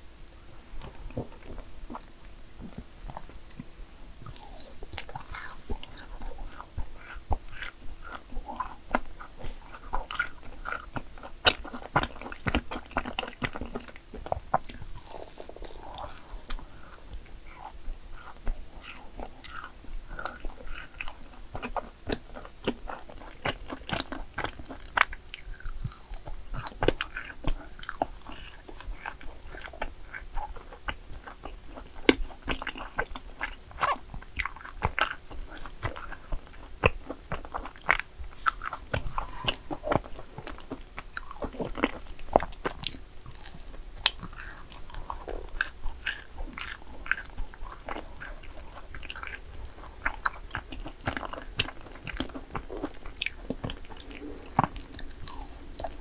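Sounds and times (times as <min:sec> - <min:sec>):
crisp cookie crunches: 0:04.3 - 0:56.0
wet chewing clicks: 0:04.3 - 0:56.0.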